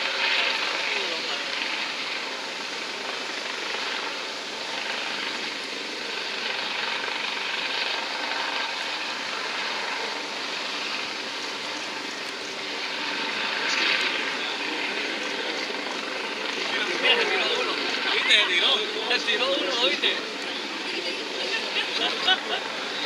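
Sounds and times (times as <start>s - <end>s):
helicopter hovering: 0.0s - 23.0s.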